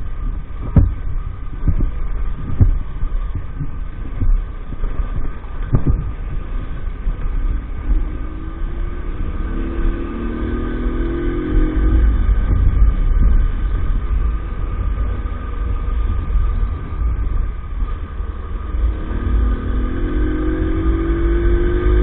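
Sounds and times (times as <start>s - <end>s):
low rumble: 0.0s - 22.0s
small motorcycle engine running: 0.0s - 22.0s.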